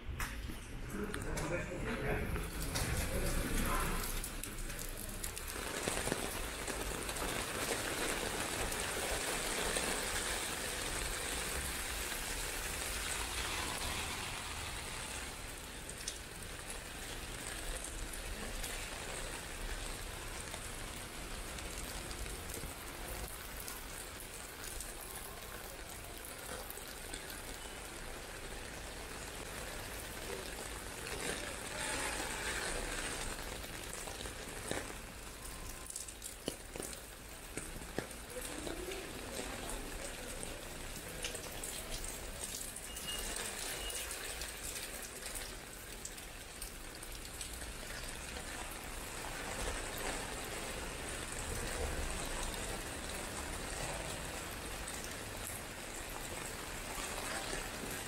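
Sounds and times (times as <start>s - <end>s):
raindrops tapping: 0.2s - 58.0s
steady rain falling: 0.2s - 58.0s.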